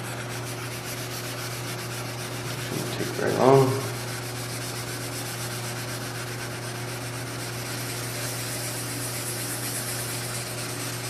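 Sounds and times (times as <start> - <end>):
constant low hum: 0.0 - 11.0
sandpaper rubbing on paint: 0.0 - 11.0.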